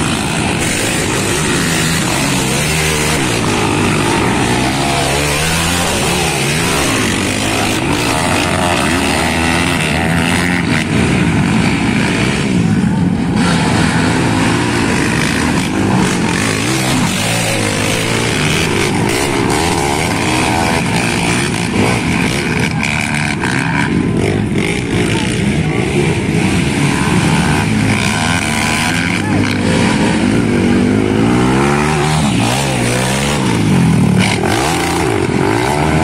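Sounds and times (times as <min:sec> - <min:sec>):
quad engines revving: 0:00.0 - 0:36.0.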